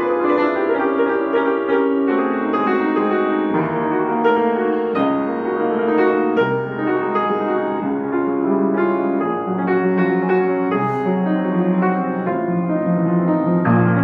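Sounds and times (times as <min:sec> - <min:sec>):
grand piano melody: 0:00.0 - 0:14.0.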